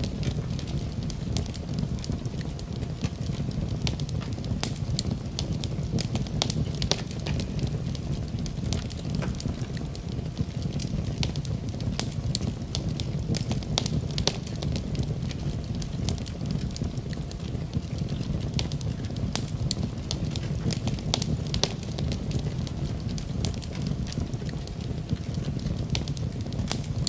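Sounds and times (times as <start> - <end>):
rain hissing: 0.0 - 27.0
wood fire crackling: 0.0 - 27.0.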